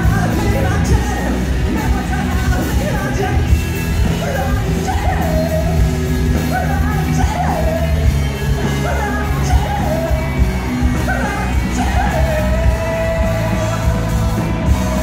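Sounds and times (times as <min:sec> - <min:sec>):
live rock band playing: 0:00.0 - 0:15.0
man singing: 0:00.0 - 0:15.0.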